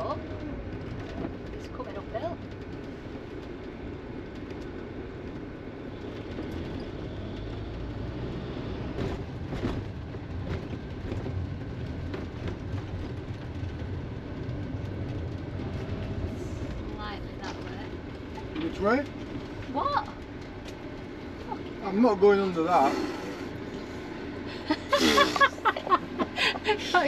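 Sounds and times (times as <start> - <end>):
engine and road rumble: 0.0 - 27.0.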